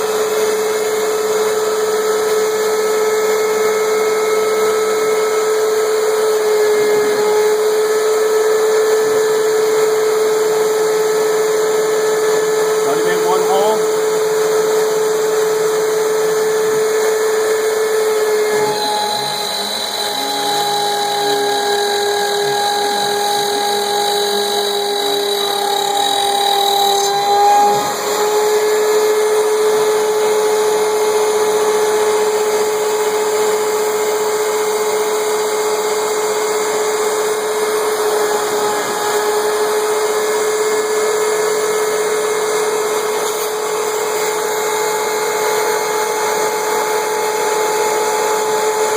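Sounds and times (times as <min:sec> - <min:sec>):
router spindle whining: 0:00.0 - 0:48.9
vacuum running: 0:00.0 - 0:48.9.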